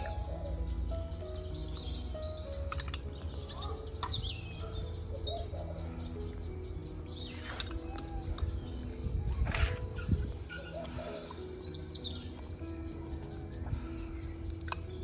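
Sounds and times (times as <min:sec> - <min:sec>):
small birds chirping: 0:00.0 - 0:15.0
soft background music: 0:00.0 - 0:15.0.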